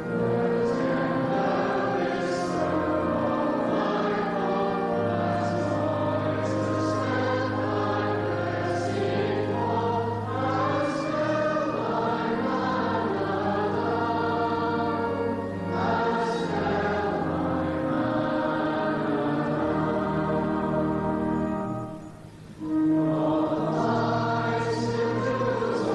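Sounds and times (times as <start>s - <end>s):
church choir singing: 0.0s - 25.9s
pipe organ: 0.0s - 25.9s.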